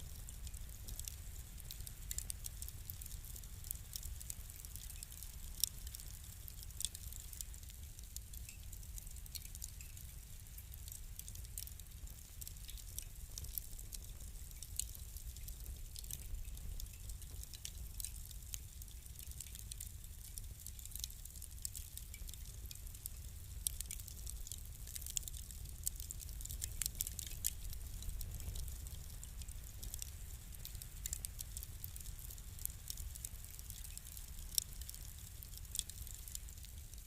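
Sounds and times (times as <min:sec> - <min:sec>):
fire crackling: 0:00.0 - 0:37.0.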